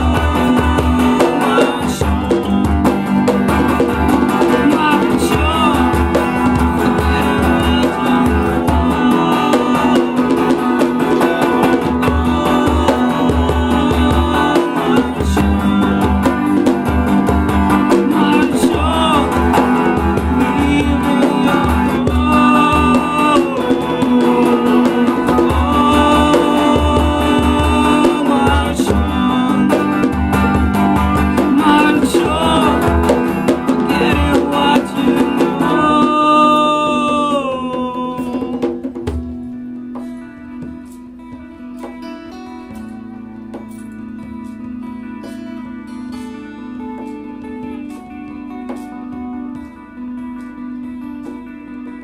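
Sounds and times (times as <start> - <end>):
steady drum beat: 0.0 - 45.4
held melody line: 0.0 - 52.0
strummed guitar: 0.0 - 52.0.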